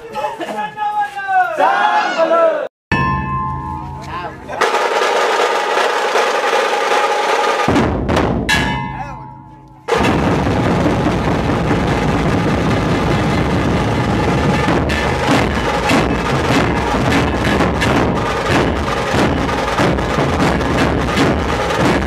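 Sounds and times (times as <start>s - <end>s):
ringing drum tones: 2.9s - 22.0s
group playing drums: 3.6s - 22.0s.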